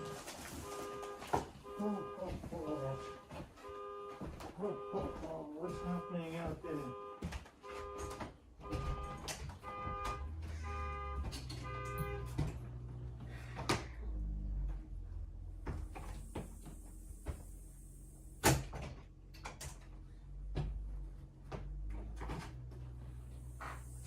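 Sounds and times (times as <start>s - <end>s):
knocks and bumps: 0.0s - 17.6s, 18.4s - 24.0s.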